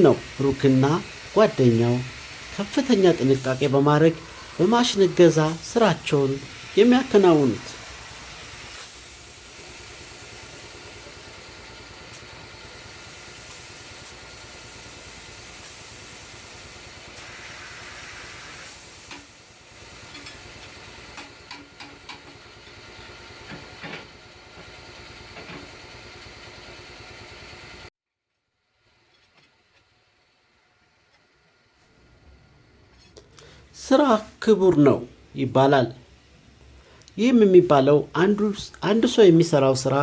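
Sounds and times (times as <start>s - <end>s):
steady hiss: 0.0s - 27.9s, 28.7s - 40.0s
low mechanical hum: 0.0s - 40.0s.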